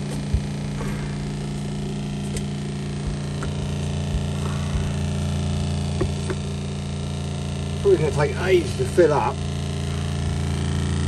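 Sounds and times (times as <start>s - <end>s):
water pump humming: 0.0s - 11.0s.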